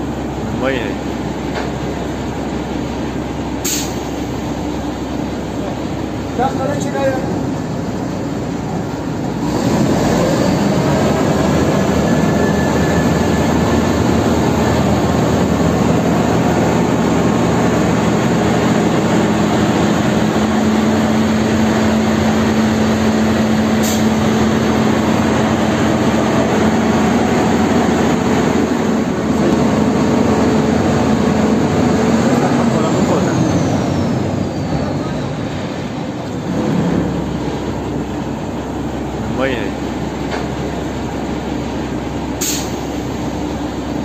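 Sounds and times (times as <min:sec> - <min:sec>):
drilling rig engine drone: 0:00.0 - 0:44.0.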